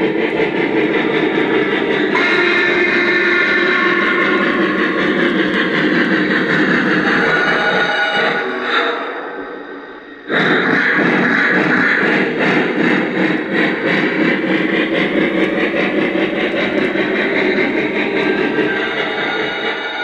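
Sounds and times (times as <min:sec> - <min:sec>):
wheels running on track: 0:00.0 - 0:08.8, 0:10.2 - 0:20.0
model locomotive steam chuffing: 0:00.0 - 0:20.0.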